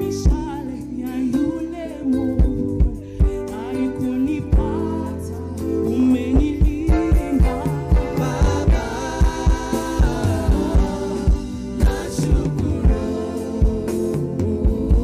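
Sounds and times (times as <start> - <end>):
keyboard: 0.0 - 15.0
people singing: 0.0 - 15.0.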